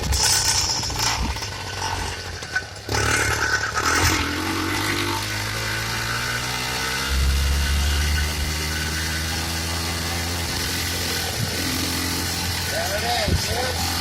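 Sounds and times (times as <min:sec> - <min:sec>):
two-stroke bicycle engine running: 0:00.0 - 0:14.0.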